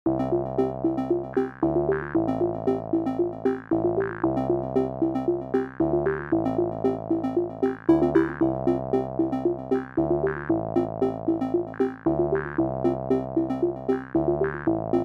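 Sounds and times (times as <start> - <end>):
electronic synthesizer music: 0.1 - 15.0.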